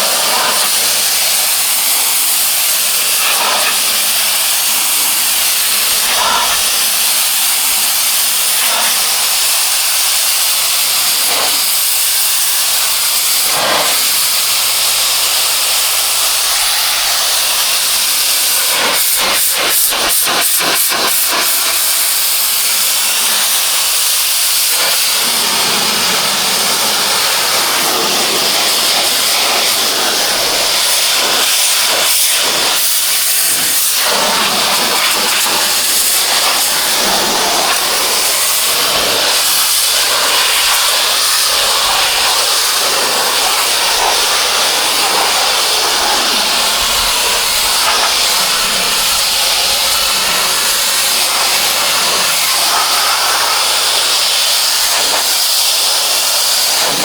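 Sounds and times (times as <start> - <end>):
pressure washer spraying: 0.0 - 57.0.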